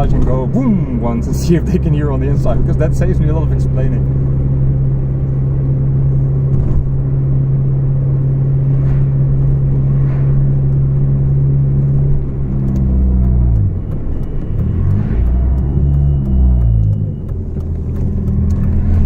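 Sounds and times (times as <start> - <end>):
car engine through leaking exhaust: 0.0 - 7.7, 10.6 - 19.0.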